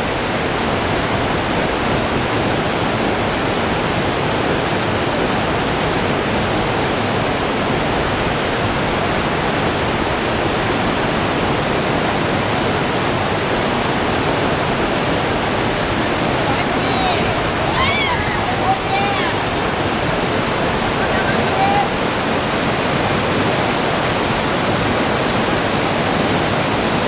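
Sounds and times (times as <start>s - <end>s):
whitewater rushing: 0.0s - 27.0s.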